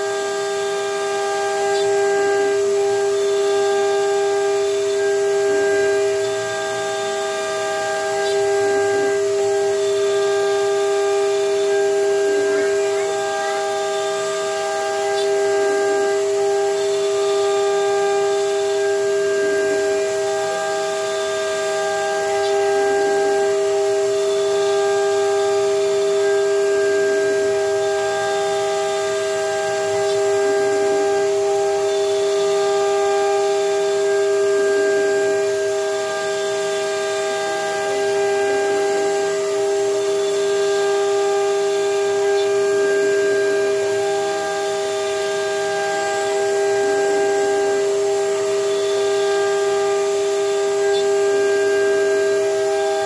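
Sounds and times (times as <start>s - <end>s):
router spindle high whine: 0.0s - 53.0s
wood cutting hiss: 0.0s - 53.0s.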